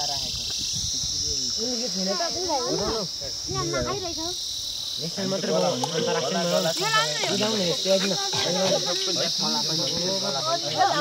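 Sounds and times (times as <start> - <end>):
insect chorus: 0.0 - 11.0
people chatting: 1.2 - 4.4, 5.0 - 11.0.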